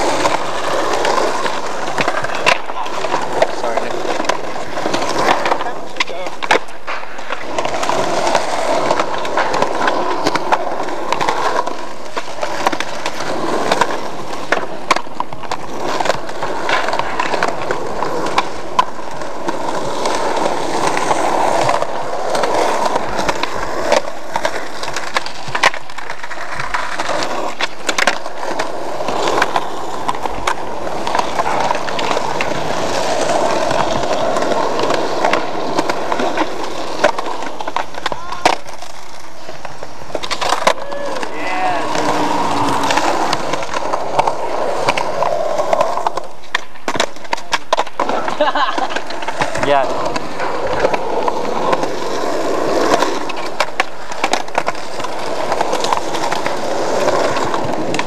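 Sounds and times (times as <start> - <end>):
skateboard clacking on ground: 0.0 - 58.0
skateboard wheels rolling on concrete: 0.0 - 58.0.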